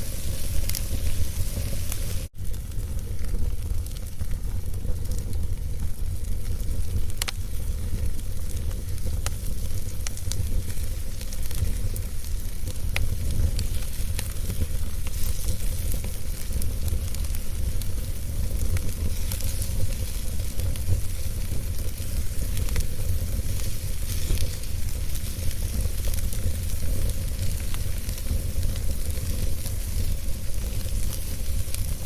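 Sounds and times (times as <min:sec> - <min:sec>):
fire crackles and pops: 0:00.0 - 0:32.0
fire rumbling and hissing: 0:00.0 - 0:32.0.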